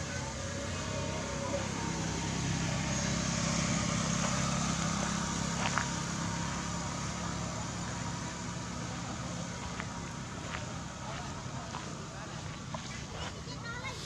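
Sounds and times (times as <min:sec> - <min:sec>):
low engine hum: 0:00.0 - 0:14.0
outdoor background noise: 0:00.0 - 0:14.0.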